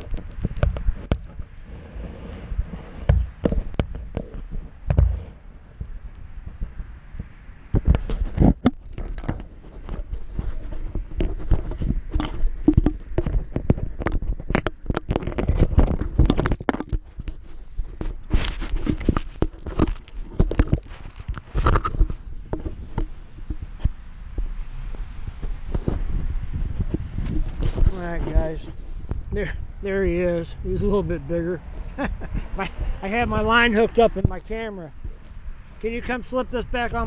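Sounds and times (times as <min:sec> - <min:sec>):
handling noise on camera microphone: 0:00.0 - 0:37.0.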